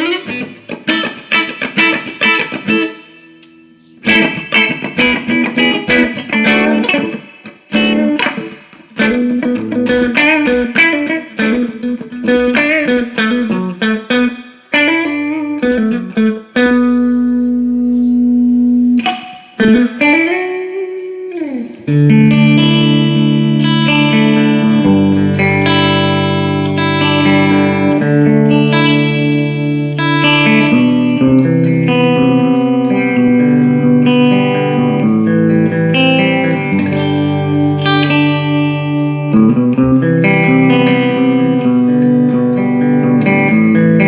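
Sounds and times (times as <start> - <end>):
electric guitar playing: 0.0 - 44.0.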